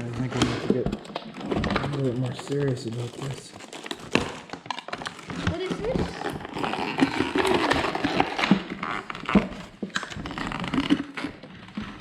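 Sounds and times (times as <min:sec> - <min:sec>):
toy packaging crinkling: 0:00.6 - 0:11.2.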